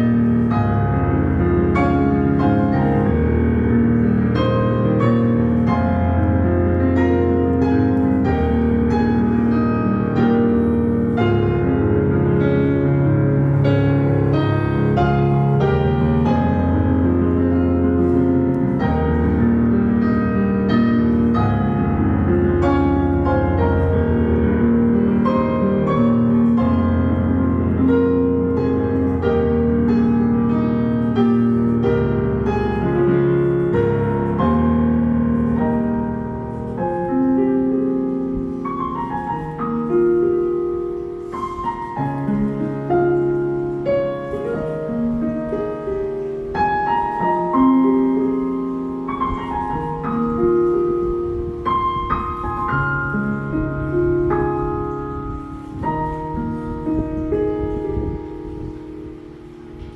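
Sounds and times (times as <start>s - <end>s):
piano playing slow ballad: 0.0s - 59.9s.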